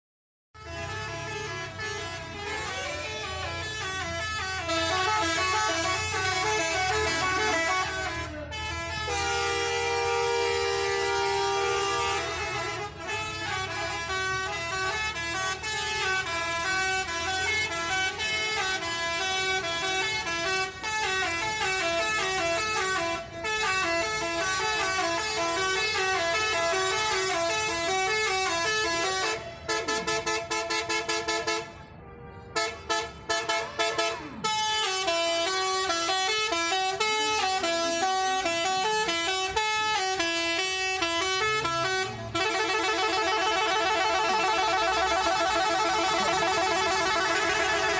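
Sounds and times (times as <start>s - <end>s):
multi-tone bus horn melody: 0.6s - 47.9s.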